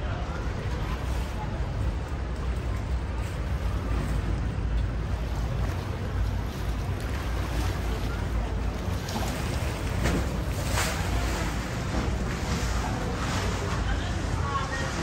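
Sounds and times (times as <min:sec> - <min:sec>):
boat engine rumble: 0:00.0 - 0:15.0
water rushing past hull: 0:00.0 - 0:15.0.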